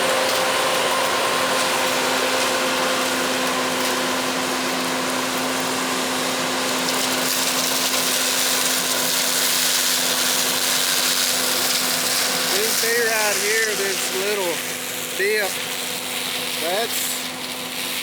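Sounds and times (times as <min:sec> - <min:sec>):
combine harvester drone: 0:00.0 - 0:18.0.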